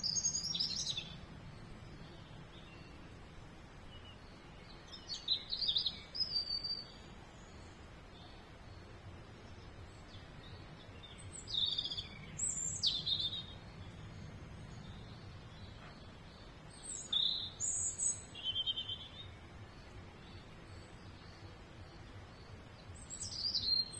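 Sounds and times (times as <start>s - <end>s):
small songbirds chirping: 0.0s - 23.9s.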